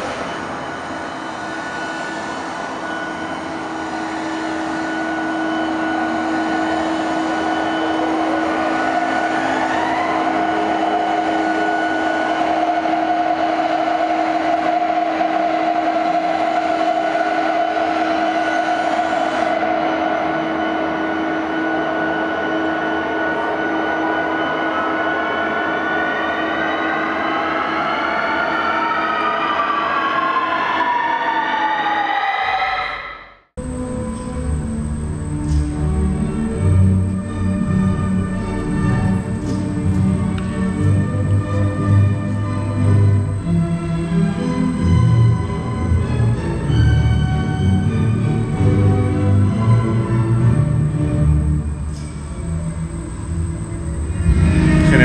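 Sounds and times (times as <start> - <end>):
electronic drone: 0.0 - 31.0, 33.6 - 55.0.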